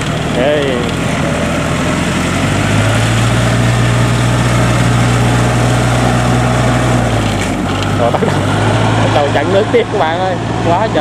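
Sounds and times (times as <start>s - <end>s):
tracked machine engine running: 0.0s - 11.0s.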